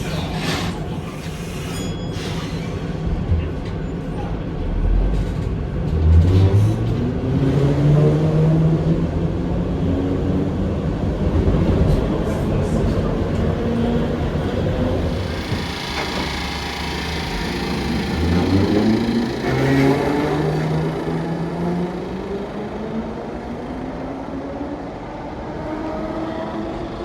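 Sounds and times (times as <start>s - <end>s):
electric tram motor hum: 3.5s - 27.0s.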